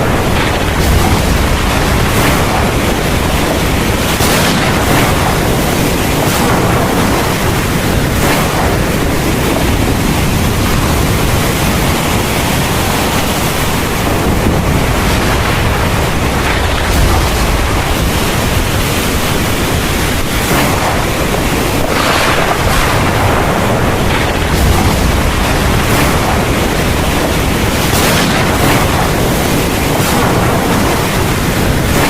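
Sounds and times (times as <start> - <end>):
heavy rain pouring: 0.0 - 32.0
low rumble: 0.0 - 32.0.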